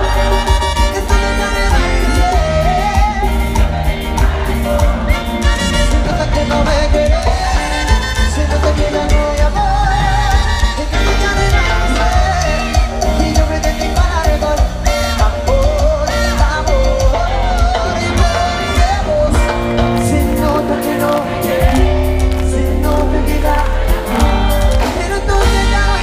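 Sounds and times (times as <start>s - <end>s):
live cumbia band playing: 0.0s - 26.0s.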